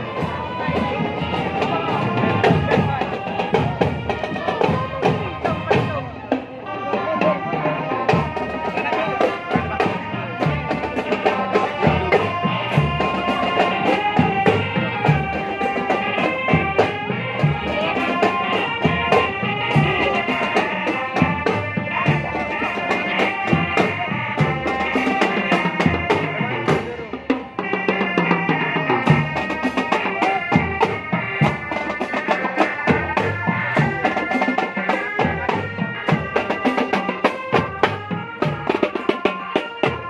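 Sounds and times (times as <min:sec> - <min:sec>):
drumline beat: 0:00.0 - 0:06.5, 0:07.2 - 0:40.0
sustained melody notes: 0:00.0 - 0:40.0.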